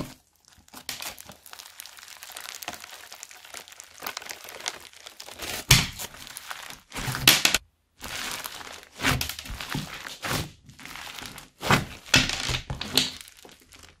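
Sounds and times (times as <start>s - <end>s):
crunchy slime crackling and popping: 0.0s - 14.0s.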